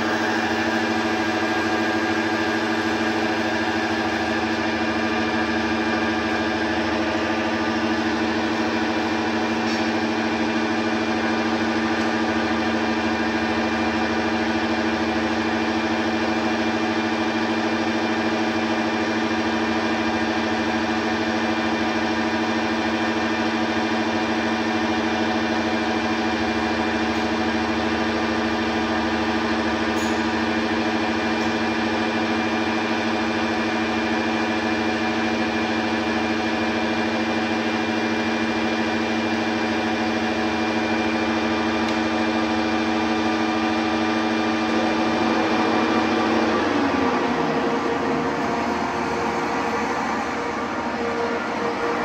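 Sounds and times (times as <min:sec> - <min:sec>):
metal lathe whining: 0:00.0 - 0:52.0.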